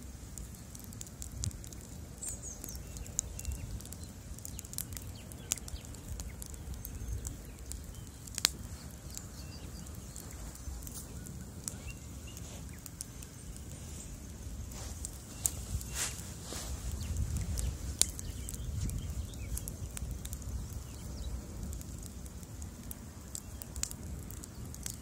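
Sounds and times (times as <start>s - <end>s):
bonfire crackling and popping: 0.0s - 25.0s
low rumble of flames: 0.0s - 25.0s.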